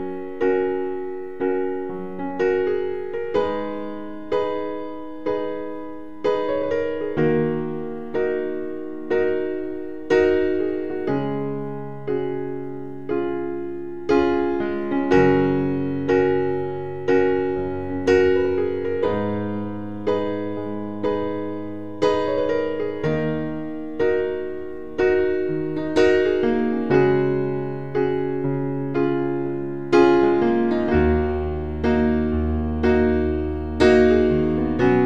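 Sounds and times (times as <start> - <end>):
piano chords ringing: 0.0 - 35.0.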